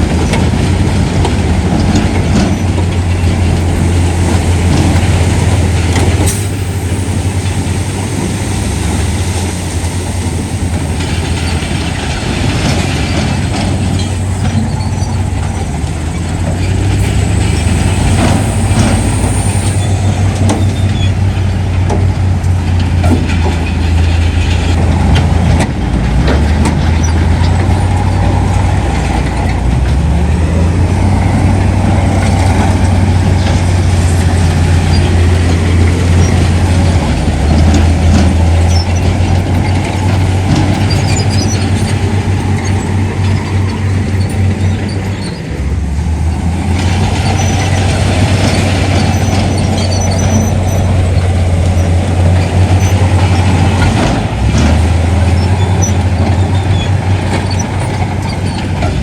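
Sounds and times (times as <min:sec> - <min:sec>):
earthmoving machinery engine drone: 0:00.0 - 0:59.0.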